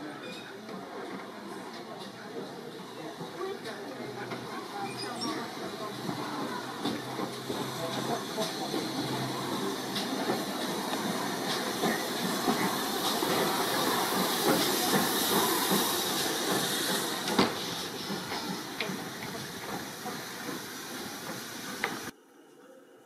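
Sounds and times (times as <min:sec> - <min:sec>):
steam locomotive hissing: 0:00.0 - 0:22.1.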